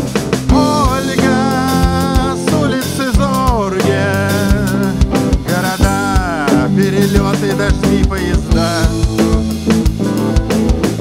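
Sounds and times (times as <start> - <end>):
drum-kit beat: 0.0 - 11.0
guitars: 0.0 - 11.0
keyboard: 0.0 - 11.0.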